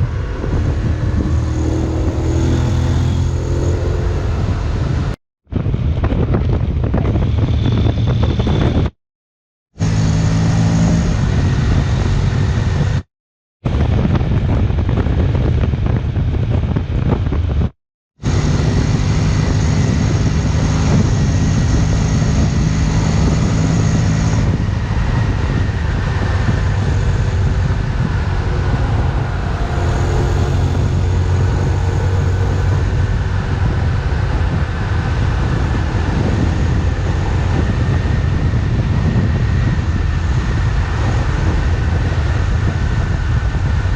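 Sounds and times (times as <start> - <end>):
motorcycle engine humming: 0.0 - 8.9, 9.8 - 13.0, 13.8 - 43.9
wind rushing over microphone: 0.0 - 9.0, 9.8 - 43.9.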